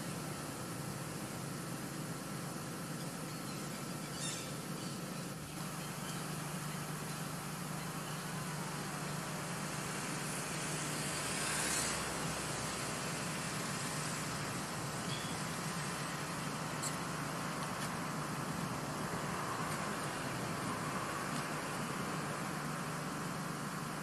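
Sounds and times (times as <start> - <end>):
outdoor background hum: 0.0 - 24.0.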